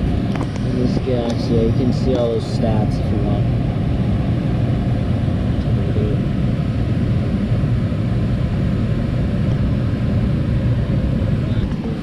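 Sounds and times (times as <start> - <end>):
furnace fans: 0.0 - 12.0
gas furnace burners rumbling: 0.0 - 12.0.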